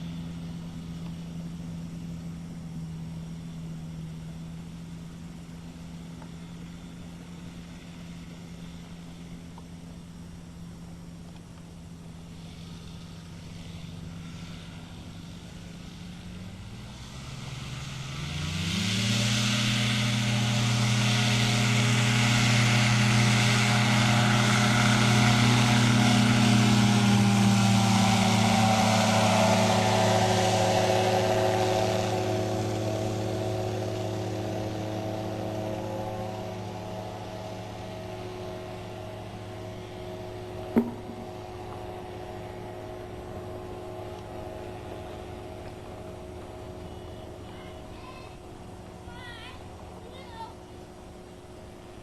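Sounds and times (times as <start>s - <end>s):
light aircraft propeller engine: 0.0s - 52.0s.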